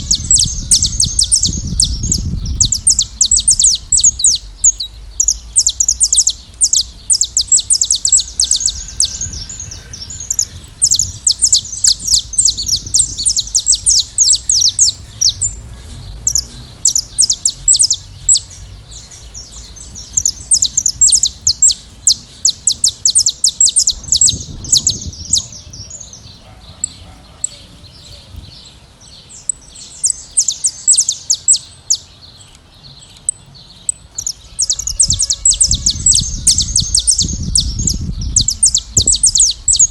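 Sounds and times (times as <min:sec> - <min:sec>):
flock of finches chirping: 0:00.0 - 0:39.9.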